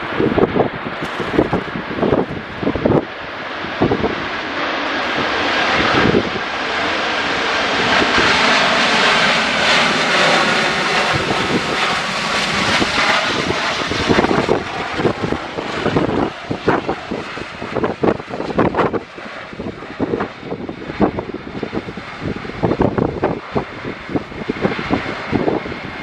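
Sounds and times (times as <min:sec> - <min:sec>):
jet engines of landing airliner: 0:00.0 - 0:26.0
wind buffeting microphone: 0:00.0 - 0:26.0.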